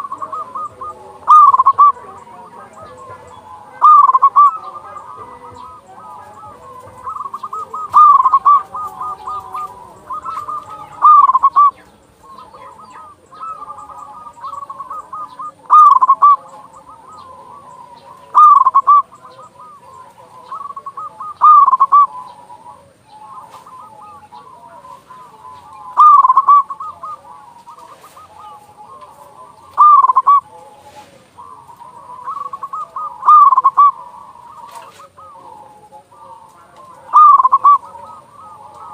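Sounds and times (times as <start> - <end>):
bird trills: 0.0 - 38.9
doves cooing: 0.0 - 38.9.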